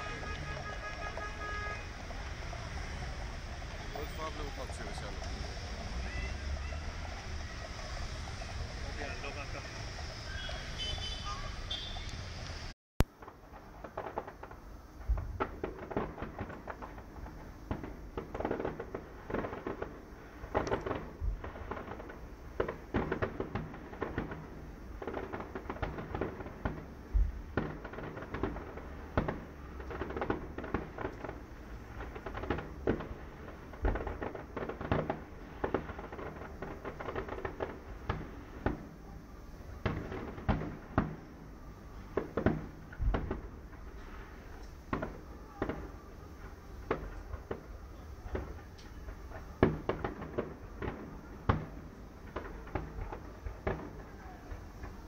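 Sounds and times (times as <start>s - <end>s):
fireworks bangs and pops: 0.0s - 55.0s.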